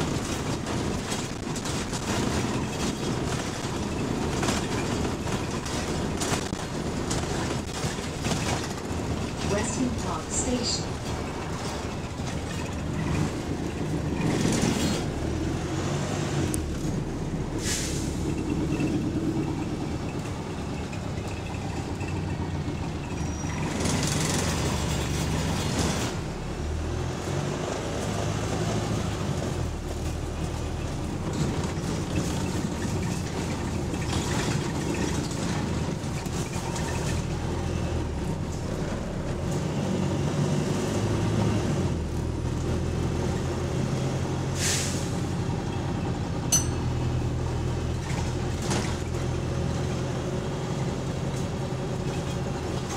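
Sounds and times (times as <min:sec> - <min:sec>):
bus diesel engine droning: 0:00.0 - 0:52.9.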